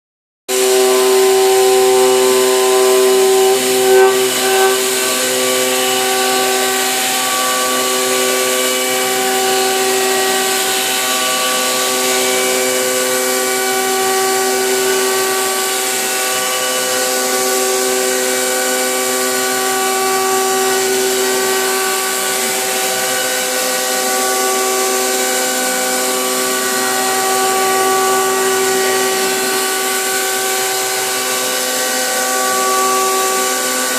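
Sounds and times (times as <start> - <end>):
milling machine whine: 0.5 - 33.9.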